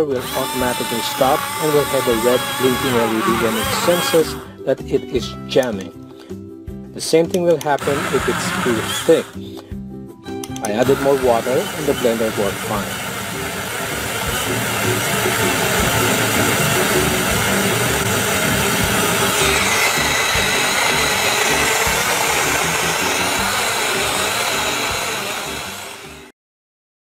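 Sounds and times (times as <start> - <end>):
small blender motor running: 0.0 - 4.6, 7.8 - 9.4, 10.7 - 26.3.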